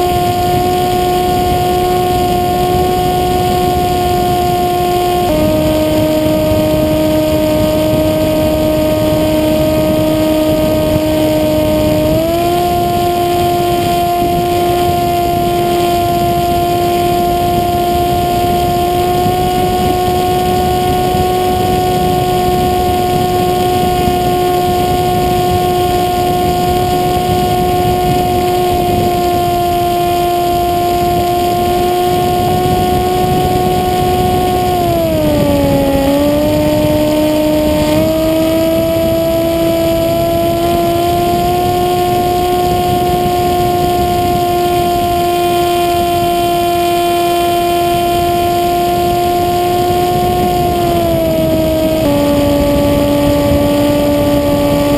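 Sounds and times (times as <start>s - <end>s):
electric motor and propeller whine: 0.0s - 54.9s
wind rushing: 0.1s - 47.2s, 47.8s - 54.9s.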